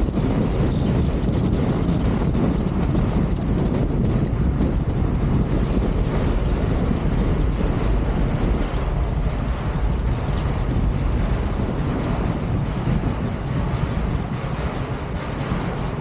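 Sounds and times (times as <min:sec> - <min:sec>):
vehicle low rumble: 0:00.0 - 0:16.0
wind buffeting microphone: 0:00.0 - 0:16.0.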